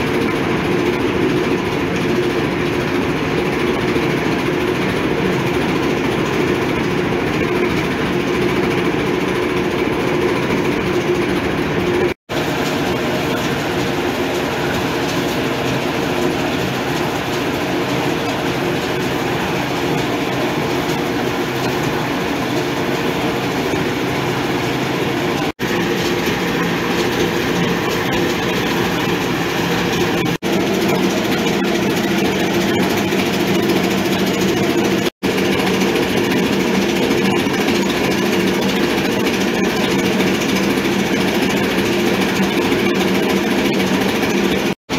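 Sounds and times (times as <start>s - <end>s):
grinding mill droning: 0.0s - 44.9s.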